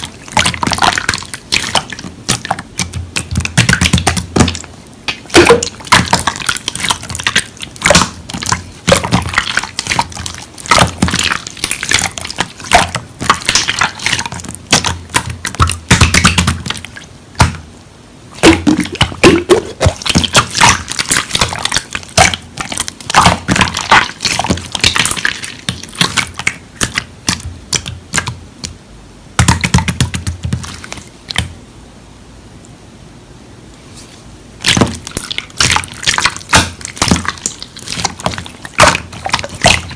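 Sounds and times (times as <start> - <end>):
slime clicking and popping: 0.0 - 17.6, 18.4 - 28.8, 34.6 - 39.9.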